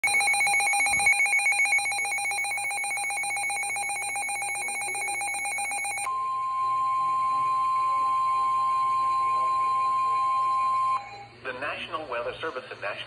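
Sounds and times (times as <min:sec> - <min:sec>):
warbling electronic alarm tone: 0:00.0 - 0:11.4.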